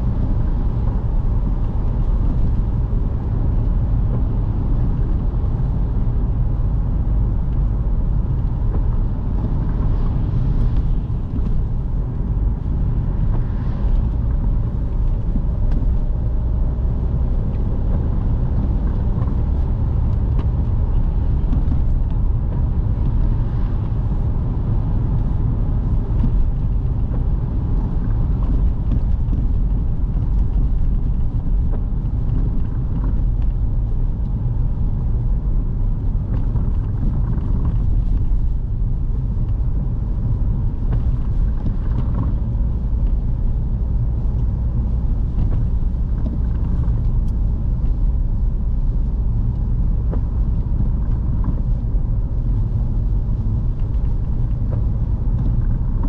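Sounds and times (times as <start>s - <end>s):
car driving on wet road: 0.0s - 56.0s.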